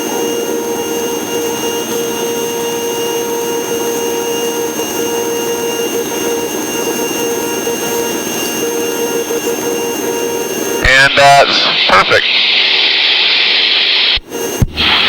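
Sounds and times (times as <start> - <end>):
light aircraft engine drone: 0.0 - 15.0.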